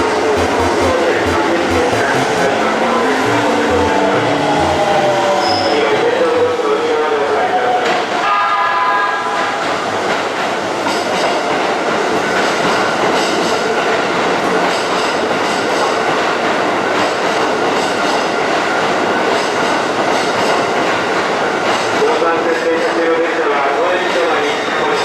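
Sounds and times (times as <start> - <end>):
train rumbling past: 0.0 - 22.5.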